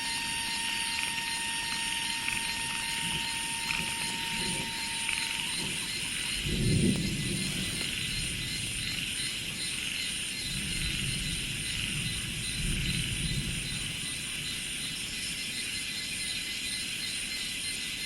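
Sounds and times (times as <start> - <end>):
insects hissing: 0.0 - 18.0
pulsing insect trill: 0.0 - 18.0.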